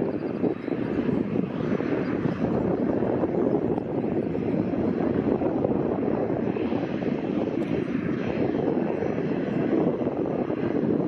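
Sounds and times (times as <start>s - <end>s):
jet engines running at low power: 0.0s - 11.0s.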